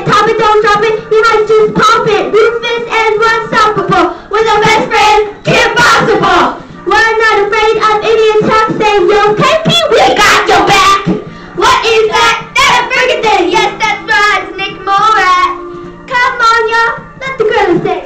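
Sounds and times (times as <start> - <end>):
girls singing into toy microphone: 0.0 - 18.0.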